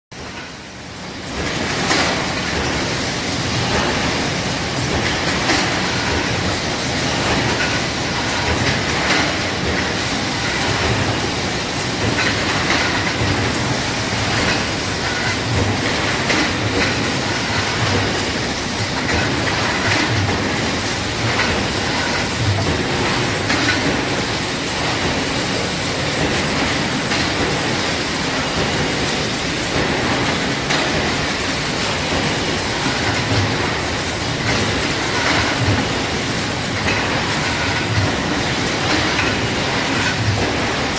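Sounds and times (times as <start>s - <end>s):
production line clatter: 0.1s - 40.9s.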